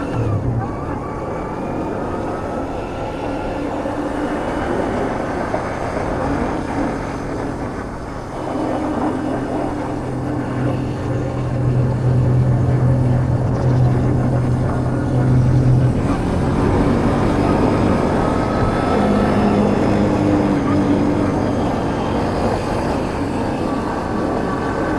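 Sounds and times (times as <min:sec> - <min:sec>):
motorbike engine hum: 0:00.0 - 0:24.9.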